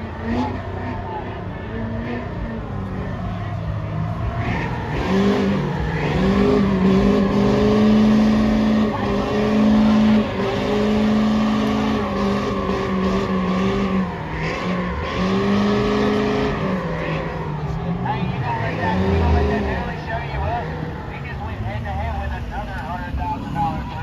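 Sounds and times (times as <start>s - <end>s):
truck engine at high revs: 0.0s - 24.0s.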